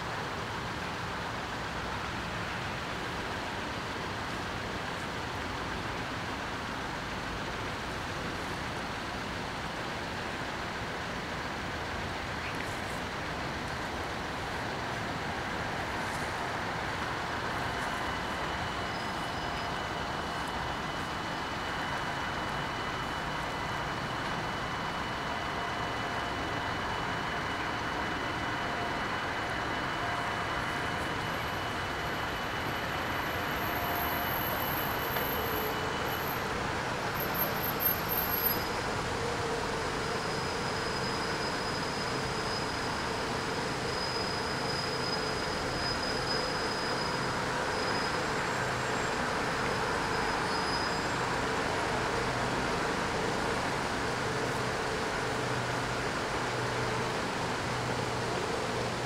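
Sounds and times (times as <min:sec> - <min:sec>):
electric train approaching: 0:00.0 - 0:59.0
road traffic rumble: 0:00.0 - 0:59.0.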